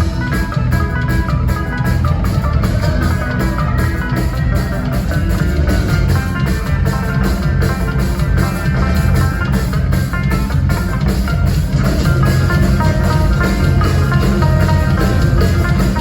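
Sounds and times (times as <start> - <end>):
band playing fast instrumental: 0.0 - 16.0
drum kit: 0.0 - 16.0
plucked string notes: 0.0 - 16.0.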